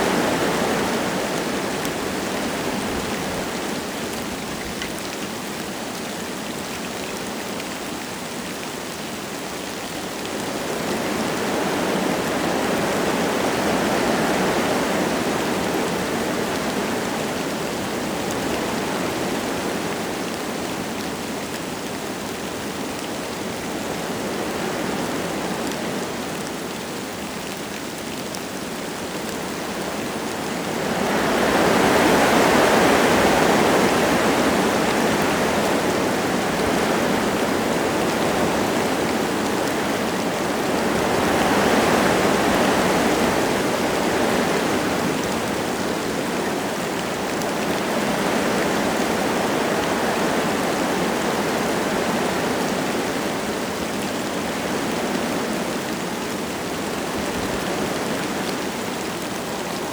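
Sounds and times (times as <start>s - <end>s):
light rain falling: 0.0s - 59.9s
wind gusting through trees: 0.0s - 59.9s.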